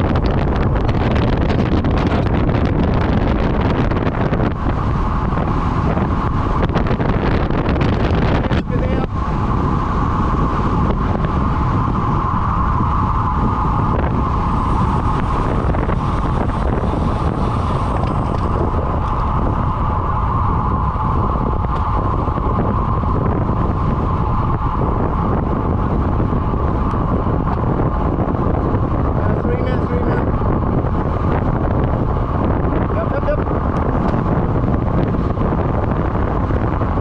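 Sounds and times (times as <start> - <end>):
constant hum: 0.0 - 37.0
wind buffeting microphone: 0.0 - 37.0.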